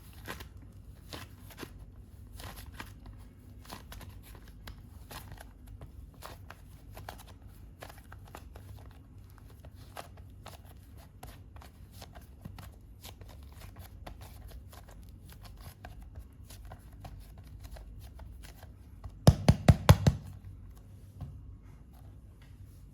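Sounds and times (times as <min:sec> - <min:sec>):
hands working modelling clay: 0:00.0 - 0:22.9.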